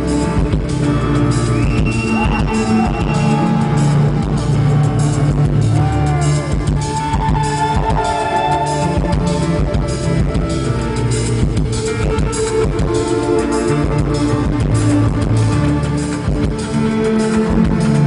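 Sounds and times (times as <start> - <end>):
bass: 0.0 - 18.0
drum kit beat: 0.0 - 18.0
electric guitar: 0.0 - 18.0
keyboard: 0.0 - 18.0.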